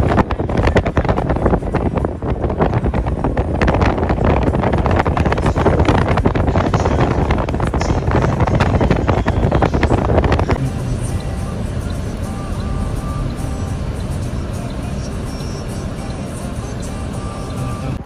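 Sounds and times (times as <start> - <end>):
wind buffeting microphone: 0.0 - 15.2
vehicle rumble: 0.0 - 18.0.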